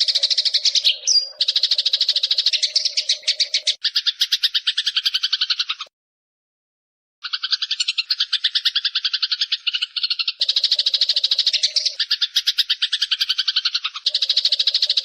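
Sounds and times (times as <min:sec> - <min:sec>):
sparrows chattering: 0:00.0 - 0:05.9, 0:07.2 - 0:15.0.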